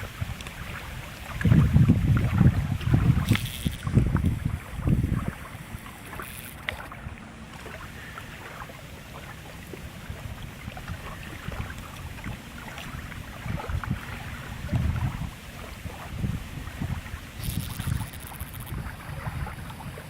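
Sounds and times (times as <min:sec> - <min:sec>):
wind buffeting microphone: 0:00.0 - 0:08.5, 0:09.6 - 0:20.0.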